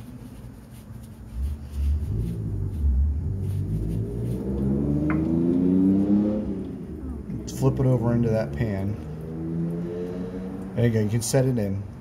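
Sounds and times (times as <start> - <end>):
vehicle engine revving: 1.4 - 11.0.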